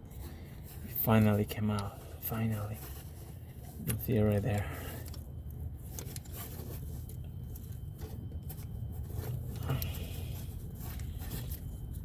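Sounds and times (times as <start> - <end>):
faint scraping and handling: 0.0 - 12.0
steady low rumble: 0.0 - 12.0.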